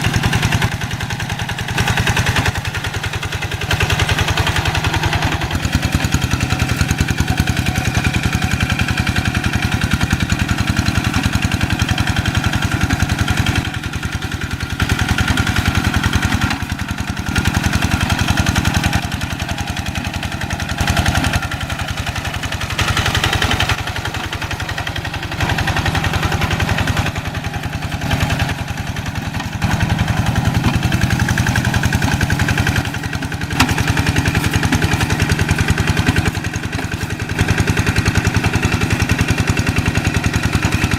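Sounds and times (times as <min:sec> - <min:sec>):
hand tractor diesel engine running: 0:00.0 - 0:40.9.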